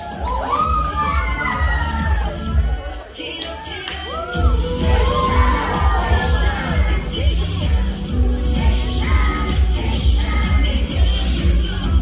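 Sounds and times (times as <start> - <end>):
dance music over speakers: 0.0 - 12.0.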